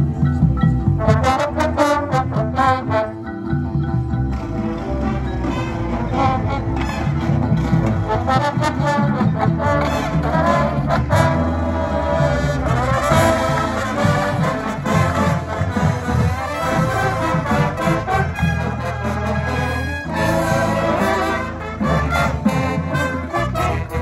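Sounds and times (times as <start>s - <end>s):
percussion hits: 0.0s - 24.0s
marching band brass: 0.9s - 3.6s, 4.2s - 24.0s.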